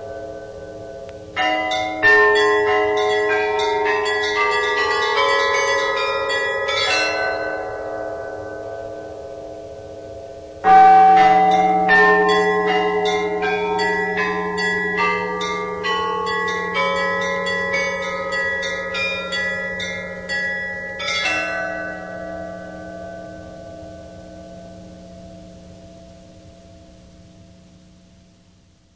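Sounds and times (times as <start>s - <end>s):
church bells ringing rapidly: 0.0s - 26.1s
deep low bell: 0.0s - 28.9s.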